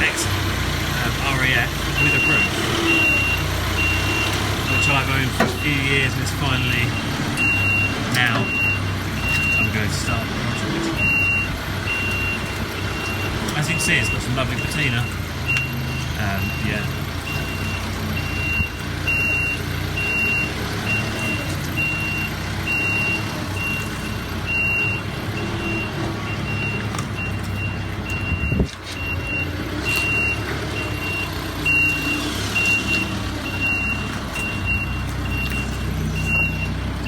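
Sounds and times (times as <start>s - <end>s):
engine rumbling: 0.0s - 37.0s
reversing alarm beeping: 0.0s - 37.0s.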